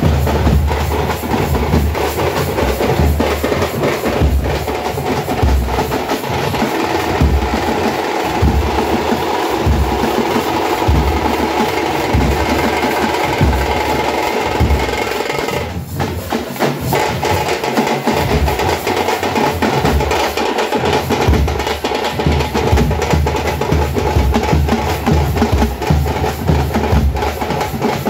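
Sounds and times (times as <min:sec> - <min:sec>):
frame drums beaten with sticks: 0:00.0 - 0:28.0.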